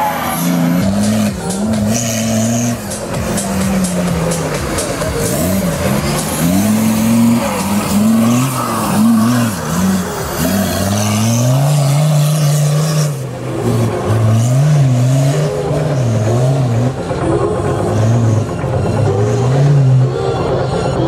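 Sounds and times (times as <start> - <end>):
tyres churning loose dirt: 0.0 - 20.0
off-road vehicle engine revving: 0.0 - 21.0.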